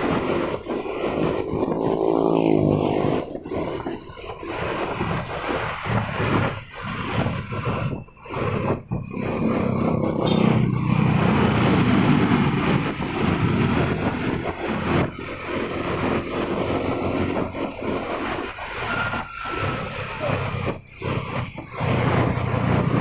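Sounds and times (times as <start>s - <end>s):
rushing wind: 0.0s - 23.0s
vehicle engine and road noise: 0.0s - 23.0s.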